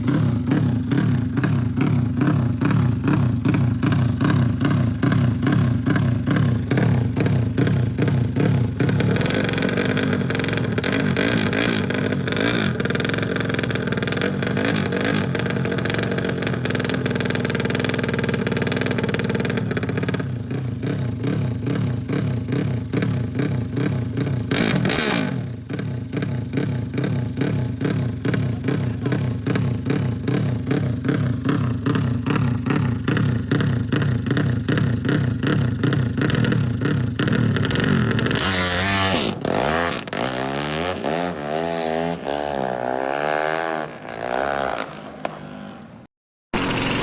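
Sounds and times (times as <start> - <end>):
motorcycle engine revving hard: 0.0 - 47.0.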